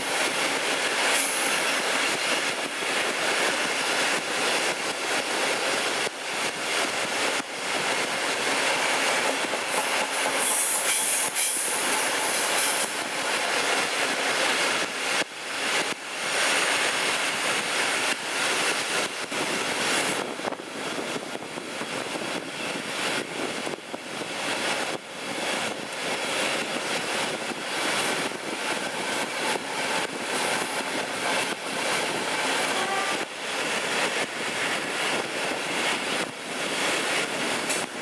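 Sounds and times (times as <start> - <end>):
wheels rushing on rail with clicks: 0.0 - 38.0.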